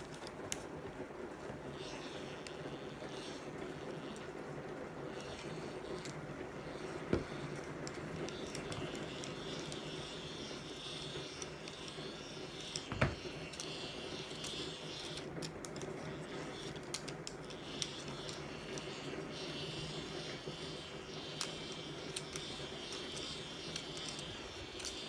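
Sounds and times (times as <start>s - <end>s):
hand-crank dynamo gear whir: 1.4s - 25.0s.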